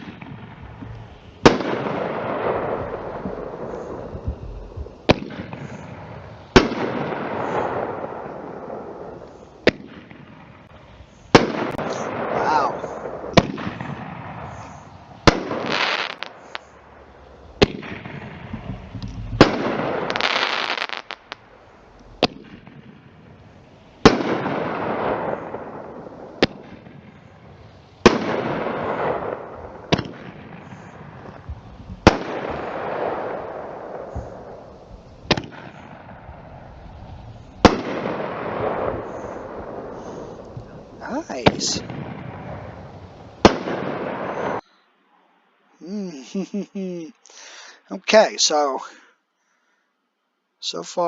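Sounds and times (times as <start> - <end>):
firework bangs: 0.0 - 44.6
firework crackling: 0.0 - 44.7.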